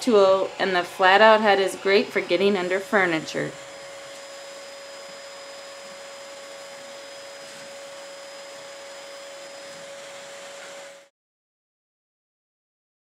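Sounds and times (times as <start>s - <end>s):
vacuum cleaner running: 0.0s - 11.1s.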